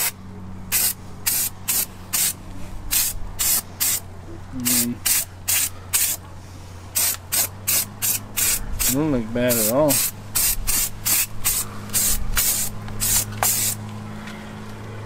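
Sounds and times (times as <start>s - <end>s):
spray paint can hissing: 0.0s - 4.0s, 4.6s - 6.2s, 7.0s - 13.8s.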